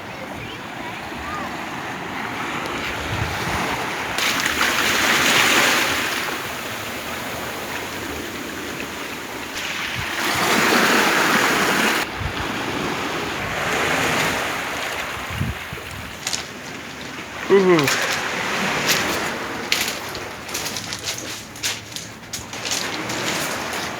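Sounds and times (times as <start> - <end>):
sea waves on shore: 0.0 - 23.9.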